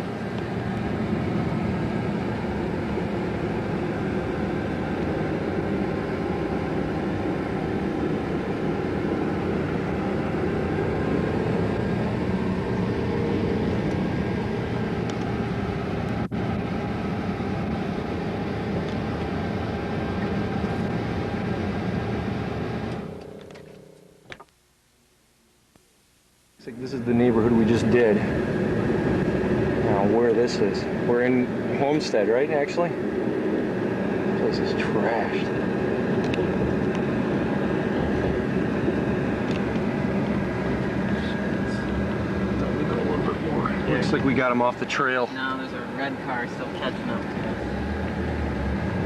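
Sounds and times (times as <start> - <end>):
van engine and road noise: 0.0 - 24.5, 26.6 - 49.0.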